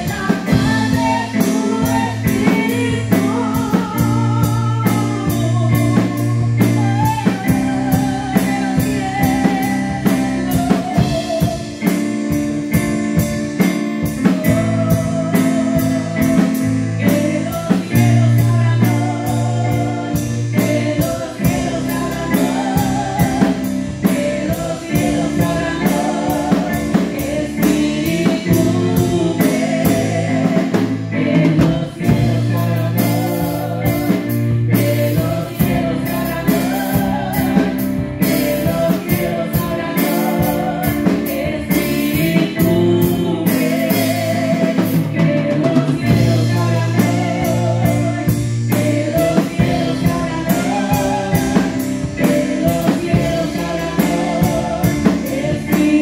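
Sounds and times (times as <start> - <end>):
voices singing together: 0.0 - 12.9, 14.0 - 56.0
drum kit and band: 0.0 - 56.0.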